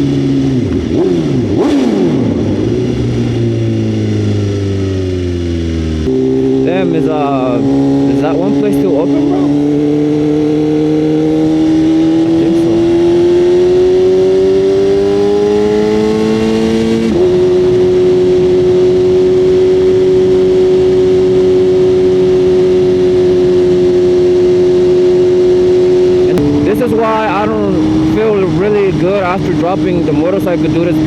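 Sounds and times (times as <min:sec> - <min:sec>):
motorcycle engine accelerating: 0:00.0 - 0:31.0
road and wind noise: 0:00.0 - 0:31.0.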